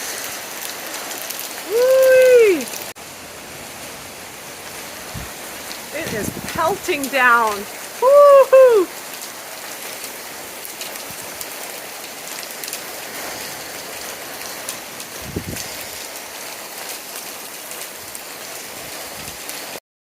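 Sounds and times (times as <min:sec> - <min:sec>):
heavy rain pelting: 0:00.0 - 0:19.8.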